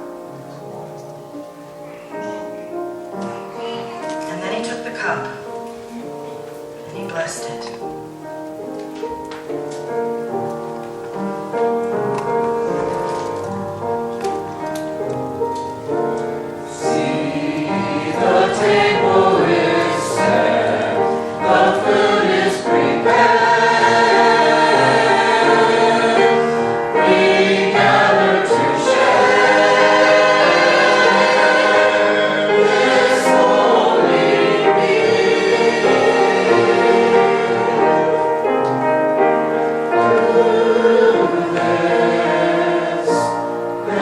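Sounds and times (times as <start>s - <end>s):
choir singing: 0.0s - 44.0s
instrumental accompaniment: 0.0s - 44.0s.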